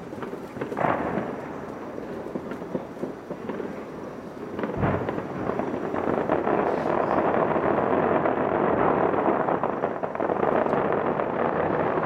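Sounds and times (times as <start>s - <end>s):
fireworks booms: 0.0s - 12.0s
fireworks crackling: 0.0s - 12.0s.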